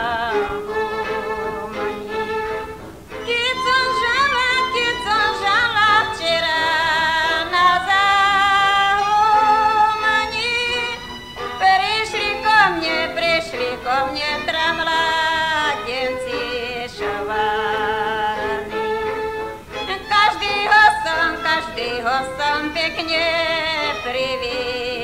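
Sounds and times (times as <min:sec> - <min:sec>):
woman singing folk song: 0:00.0 - 0:25.0.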